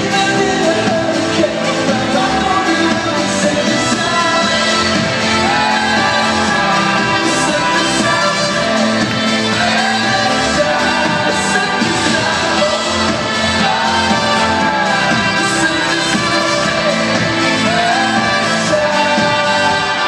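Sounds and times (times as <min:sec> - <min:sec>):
live band and singer performing: 0:00.0 - 0:20.0.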